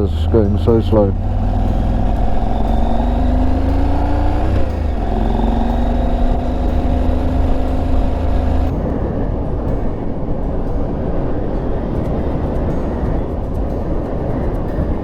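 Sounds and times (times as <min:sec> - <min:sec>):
motorcycle engine accelerating: 0:00.0 - 0:13.3
low wind rumble: 0:00.0 - 0:15.0.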